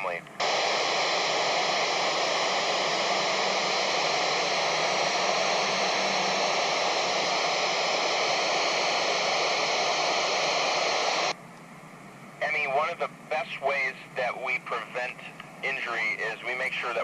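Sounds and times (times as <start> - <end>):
radio static hiss: 0.0 - 11.4, 12.4 - 17.0.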